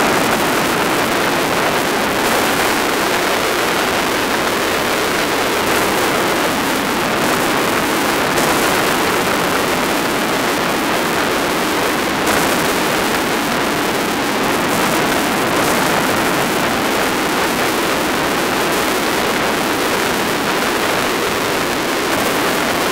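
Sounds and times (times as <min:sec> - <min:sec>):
wind rush: 0:00.0 - 0:22.9.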